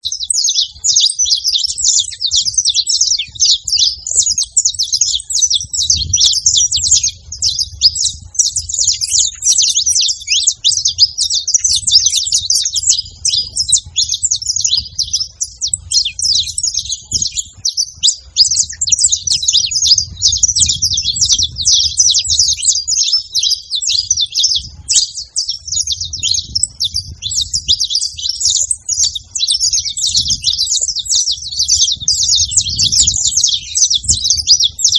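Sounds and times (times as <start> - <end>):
finches singing and chirping: 0.0 - 34.9.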